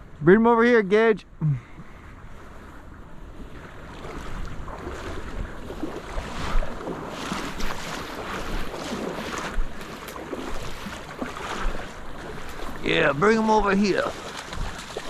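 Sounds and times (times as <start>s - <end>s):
wind buffeting microphone: 1.8s - 15.0s
water splashing: 2.4s - 15.0s.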